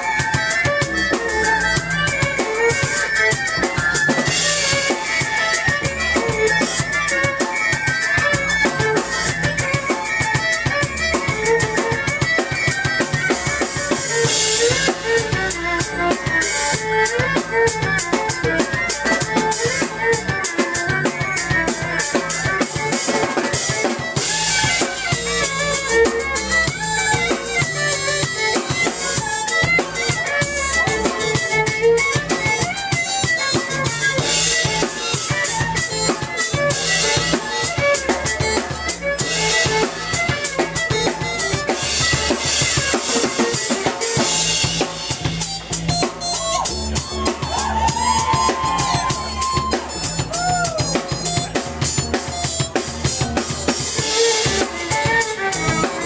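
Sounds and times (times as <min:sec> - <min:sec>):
bass line: 0:00.0 - 0:56.0
drum kit beat: 0:00.0 - 0:56.0
keyboard melody: 0:00.0 - 0:56.0
violin melody: 0:00.0 - 0:56.0.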